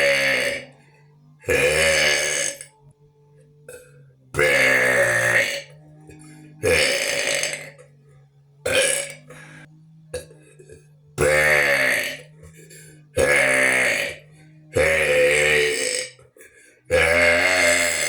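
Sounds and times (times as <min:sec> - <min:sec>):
person burping: 0:00.0 - 0:00.8, 0:01.5 - 0:02.7, 0:03.7 - 0:07.8, 0:08.7 - 0:18.0.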